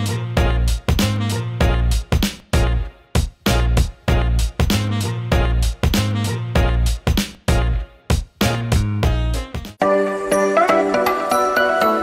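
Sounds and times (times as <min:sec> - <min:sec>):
drum beat over bass line: 0:00.0 - 0:09.8.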